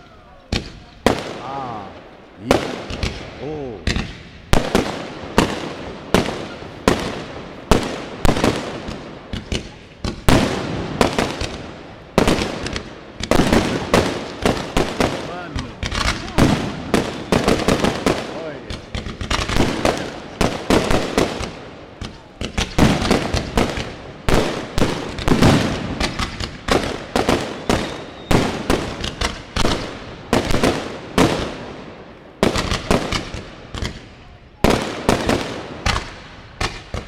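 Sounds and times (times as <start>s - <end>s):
fireworks bursting and crackling: 0.0s - 37.0s
sharp firework bangs: 0.0s - 37.0s.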